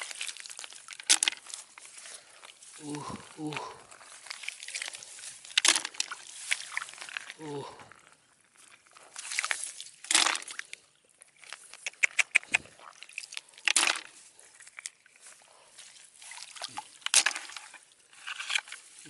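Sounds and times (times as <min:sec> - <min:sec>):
water sloshing and splashing: 0:00.0 - 0:11.8, 0:12.6 - 0:19.0.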